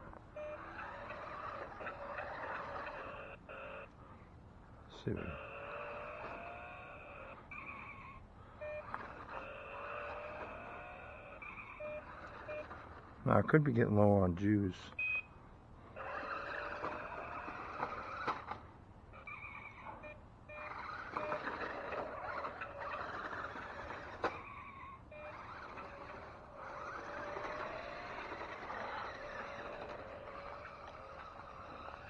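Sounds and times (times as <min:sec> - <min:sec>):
toy car motor whirring: 0:00.3 - 0:04.0, 0:05.1 - 0:13.4, 0:15.8 - 0:32.0.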